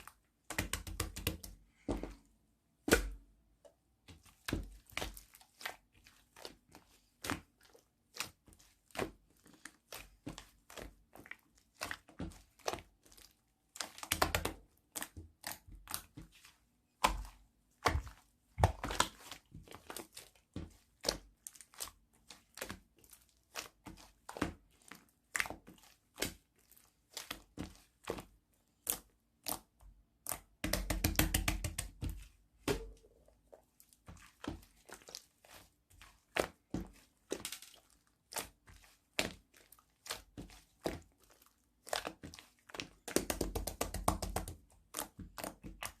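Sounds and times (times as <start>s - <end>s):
slime squishing with clicks and pops: 0.1s - 1.6s, 2.8s - 16.3s, 16.9s - 26.5s, 27.1s - 46.0s.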